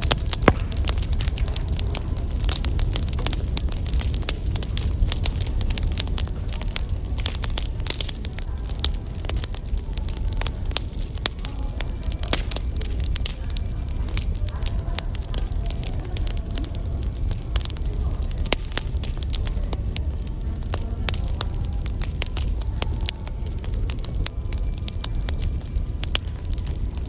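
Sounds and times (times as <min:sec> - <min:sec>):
low rumble: 0:00.0 - 0:27.0
wood fire crackling: 0:00.0 - 0:27.0.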